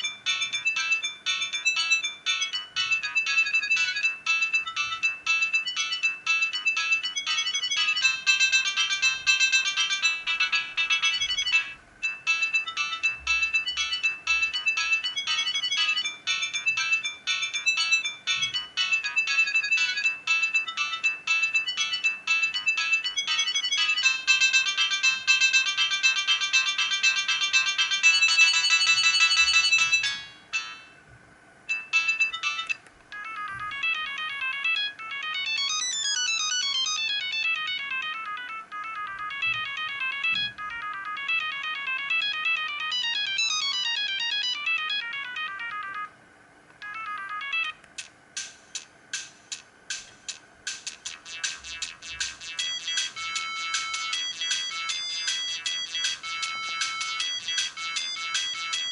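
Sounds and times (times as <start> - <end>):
mobile phone ringtone melodies: 0.0 - 46.2, 46.8 - 58.9.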